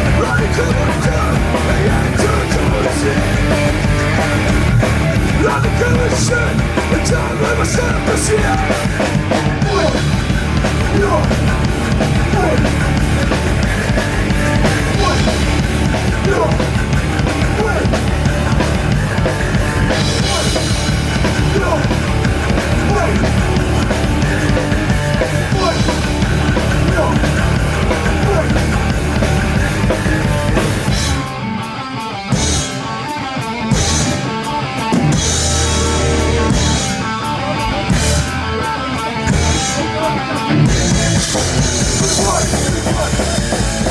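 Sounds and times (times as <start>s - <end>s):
punk rock band playing: 0.0s - 43.9s.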